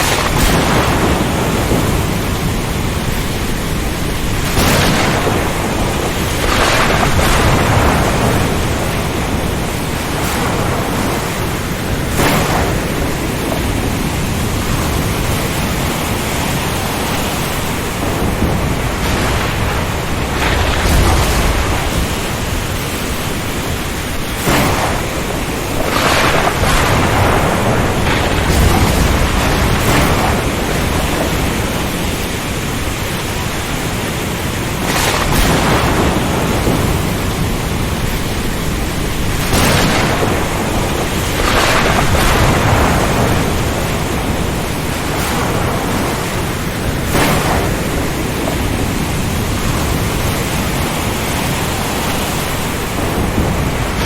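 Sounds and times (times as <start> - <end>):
rain: 0.0 - 54.0
surf: 0.0 - 54.0
thunder rumbles: 0.0 - 54.0
wind rushing: 0.0 - 54.0.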